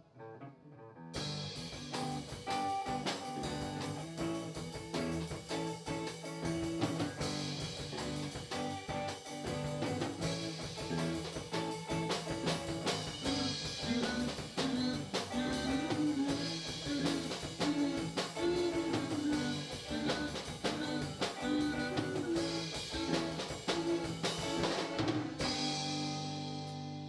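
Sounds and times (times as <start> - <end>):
live rock band playing: 1.1 - 27.0
drum kit: 1.2 - 27.0.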